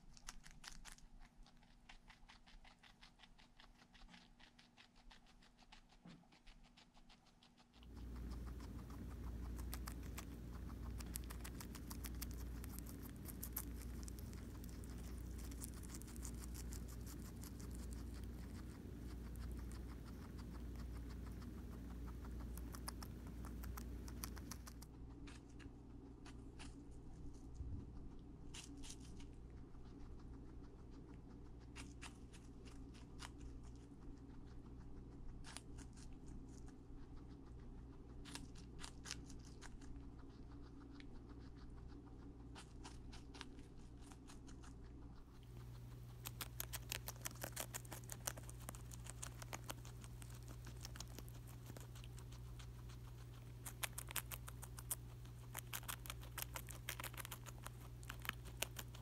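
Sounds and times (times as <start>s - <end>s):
guinea pig crunching food: 0.0s - 59.0s.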